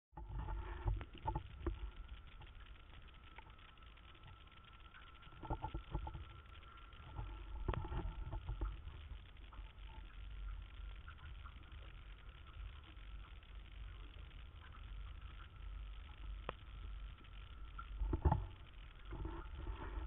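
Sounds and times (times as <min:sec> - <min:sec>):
faint steady high whine: 0:00.2 - 0:20.0.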